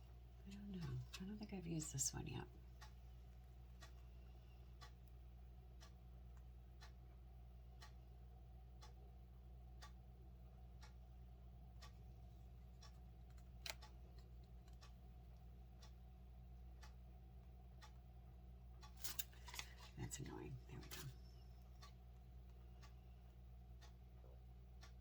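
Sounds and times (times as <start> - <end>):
clock ticking faintly: 0.0 - 25.0
low steady hum: 0.0 - 25.0.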